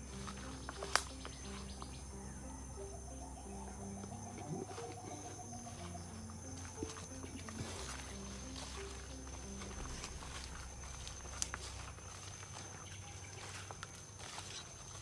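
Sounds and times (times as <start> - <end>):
crickets chirping: 0.0 - 15.0
slow background music: 0.0 - 15.0.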